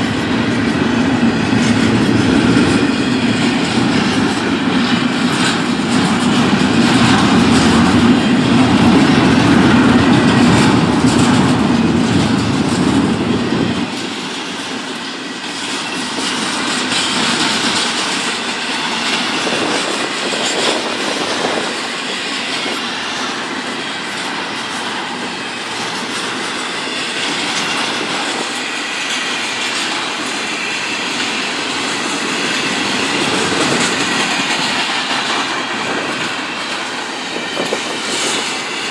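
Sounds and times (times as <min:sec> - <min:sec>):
train wheel clatter: 0:00.0 - 0:38.9.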